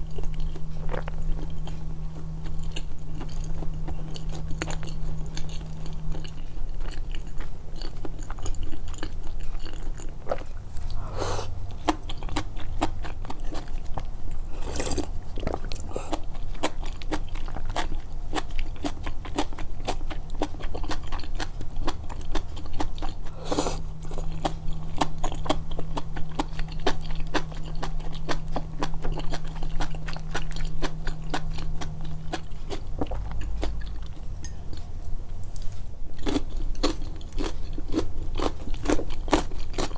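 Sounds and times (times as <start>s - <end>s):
person chewing with wet mouth clicks: 0.0s - 39.9s.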